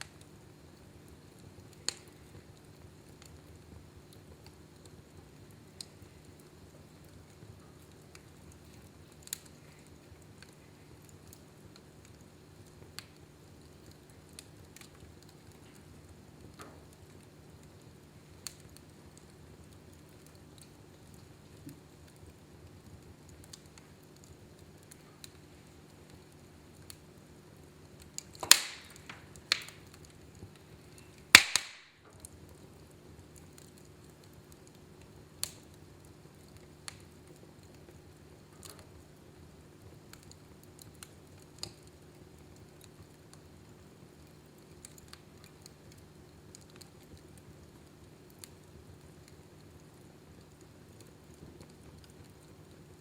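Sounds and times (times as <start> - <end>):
faint steady hum: 0.0 - 53.0
fire crackling and popping: 0.0 - 53.0.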